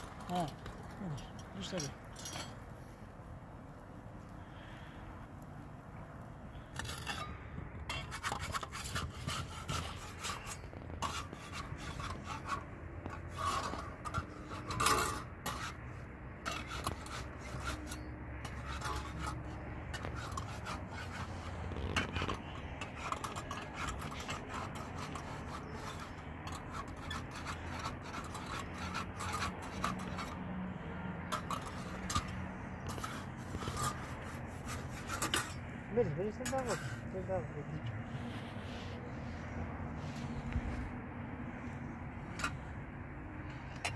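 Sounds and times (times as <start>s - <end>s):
metal spatula scraping iron griddle: 0.0s - 3.1s, 6.5s - 40.9s, 41.5s - 43.9s.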